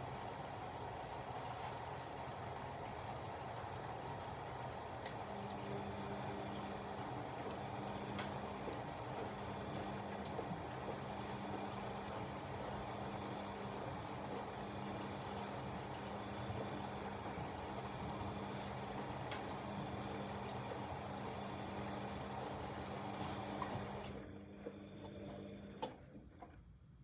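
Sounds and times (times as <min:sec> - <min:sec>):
washing machine humming: 0:00.0 - 0:26.7.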